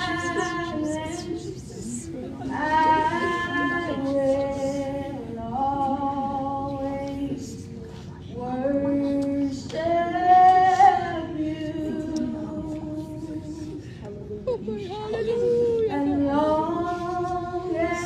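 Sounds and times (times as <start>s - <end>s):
woman singing worship song: 0.0s - 18.0s.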